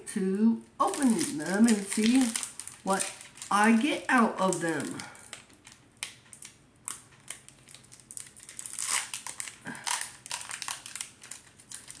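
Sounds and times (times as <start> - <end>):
foil wrapper crinkling: 0.8 - 12.0.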